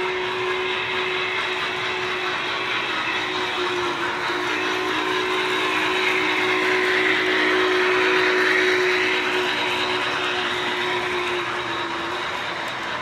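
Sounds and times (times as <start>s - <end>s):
model train wheels rumbling: 0.0s - 13.0s
steady hum: 0.0s - 13.0s.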